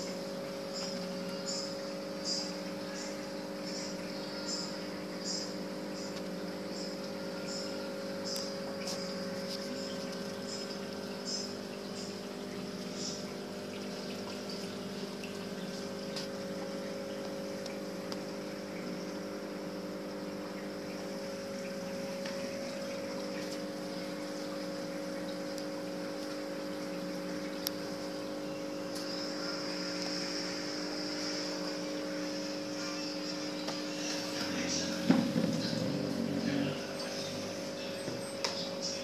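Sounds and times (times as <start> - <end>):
pump humming: 0.0 - 39.0
water trickling: 0.0 - 39.0.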